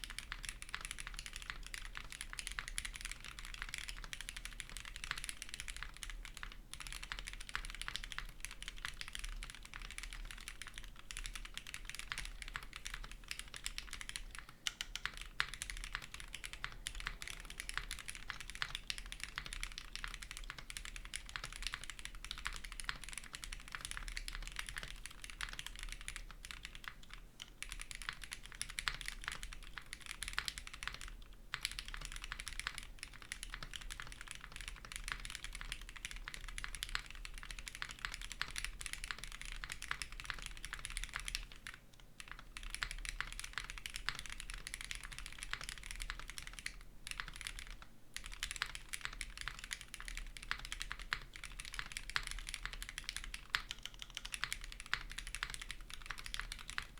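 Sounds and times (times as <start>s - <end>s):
mechanical keyboard typing: 0.0s - 56.9s.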